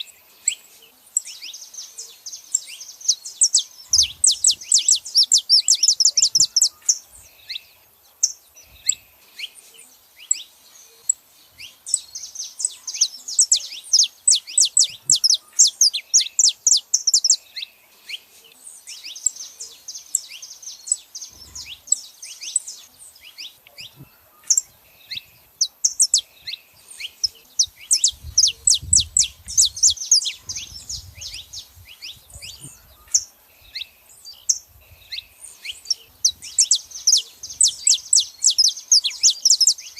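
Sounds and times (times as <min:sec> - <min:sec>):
finches chirping and singing: 0:00.0 - 0:39.9.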